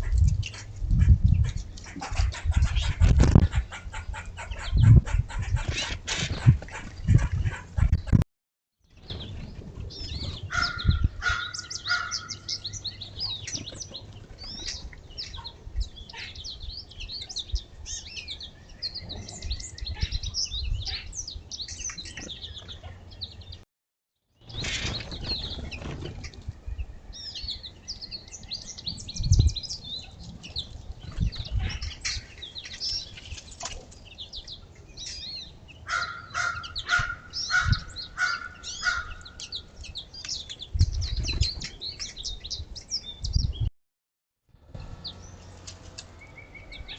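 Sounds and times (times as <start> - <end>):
songbirds chirping in chorus: 0.0 - 8.2, 8.8 - 23.6, 24.2 - 43.7, 44.5 - 46.9.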